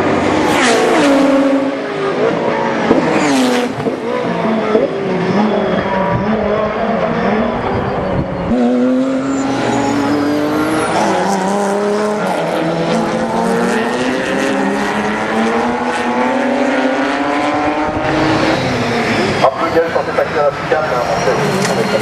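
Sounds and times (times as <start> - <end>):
race car engines shifting gears: 0.0 - 22.0.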